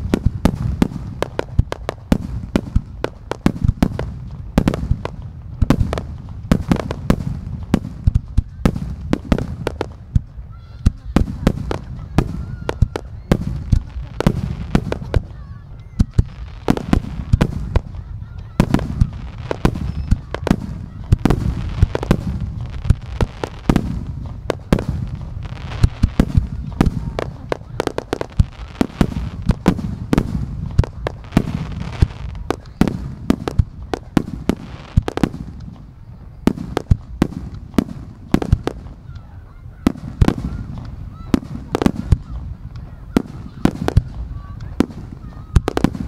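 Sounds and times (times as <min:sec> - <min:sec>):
fireworks booming and cracking: 0:00.0 - 0:46.0.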